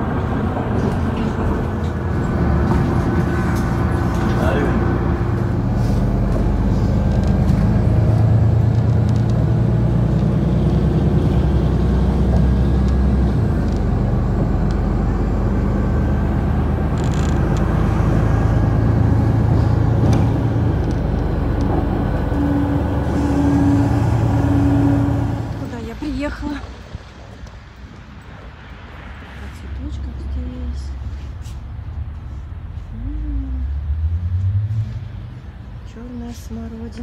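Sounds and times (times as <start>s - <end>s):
bus engine and road noise: 0.0s - 37.0s.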